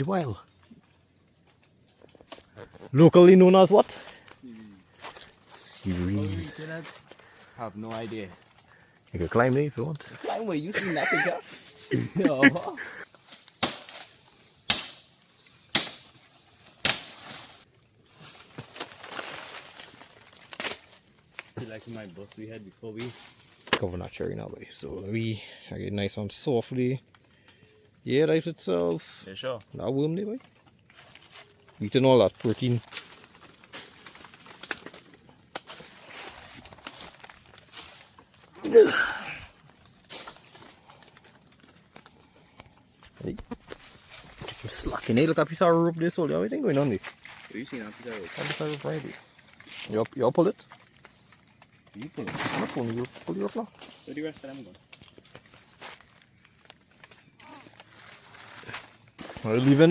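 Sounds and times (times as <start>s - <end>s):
twigs snapping and clicking: 0.0s - 2.9s, 3.9s - 10.2s, 13.1s - 24.1s, 29.5s - 45.5s, 46.6s - 59.9s
rustling with small ticks: 0.0s - 3.3s, 4.0s - 24.2s, 29.2s - 38.6s, 39.2s - 59.9s.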